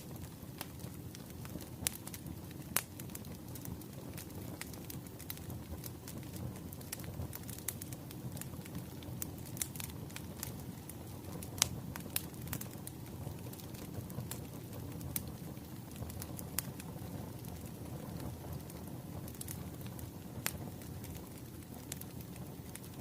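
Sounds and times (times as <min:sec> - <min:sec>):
low rumble of burning logs: 0:00.0 - 0:23.0
wood fire crackling: 0:00.0 - 0:23.0.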